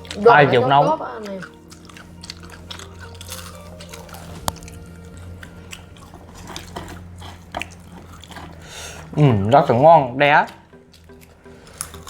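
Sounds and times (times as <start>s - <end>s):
person chewing crunchy food: 0.0s - 12.0s
steady low hum: 0.0s - 12.0s.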